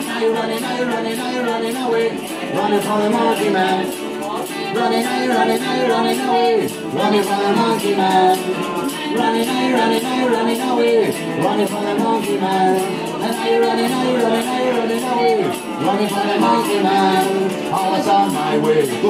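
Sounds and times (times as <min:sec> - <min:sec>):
acoustic ska band playing: 0:00.0 - 0:19.0
high rattling rhythm: 0:00.0 - 0:19.0
voices singing: 0:00.0 - 0:19.0.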